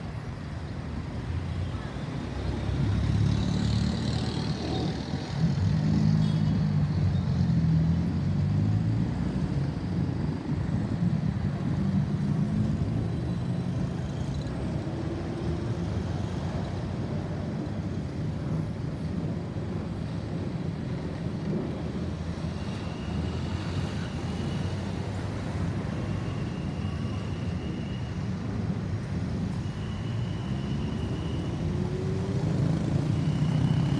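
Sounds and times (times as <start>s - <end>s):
traffic noise: 0.0s - 33.9s.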